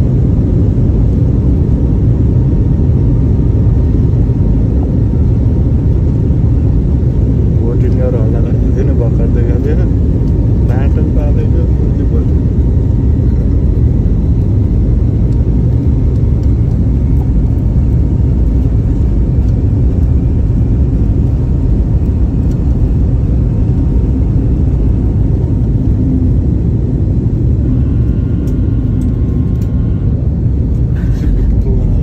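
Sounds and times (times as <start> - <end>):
jet engines roaring in cabin: 0.0 - 32.0.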